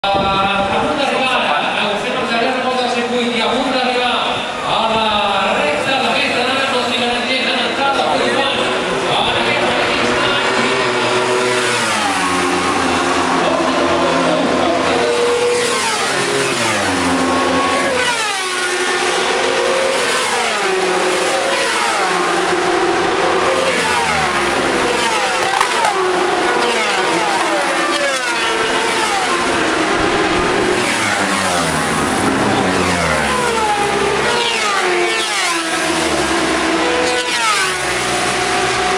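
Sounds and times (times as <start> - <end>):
racing motorcycles passing: 0.5 - 38.9.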